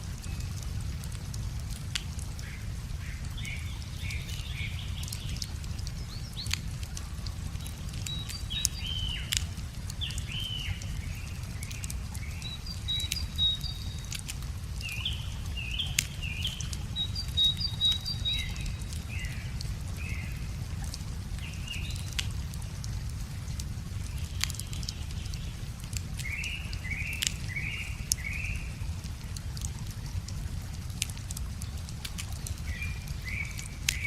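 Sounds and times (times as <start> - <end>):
songbirds singing: 0.0 - 29.7, 30.9 - 34.0
wood fire crackling and popping: 0.0 - 34.0.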